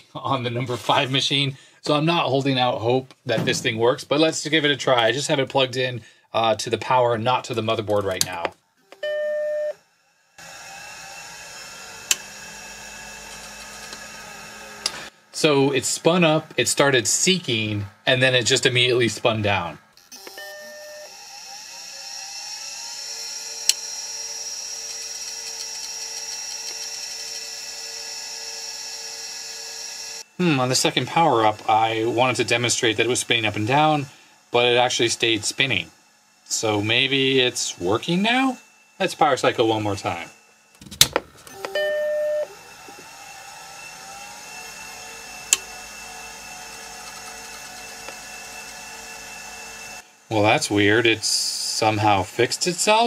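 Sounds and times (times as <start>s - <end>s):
hard drive motor whine: 8.1s - 53.0s.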